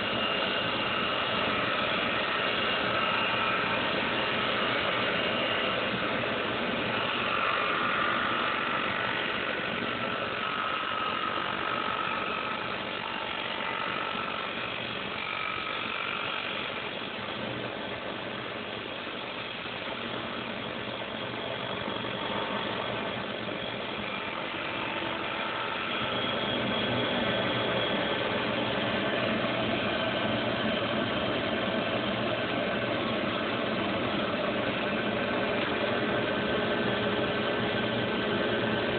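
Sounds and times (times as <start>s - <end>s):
lathe machine drone with whining: 0.0s - 38.9s.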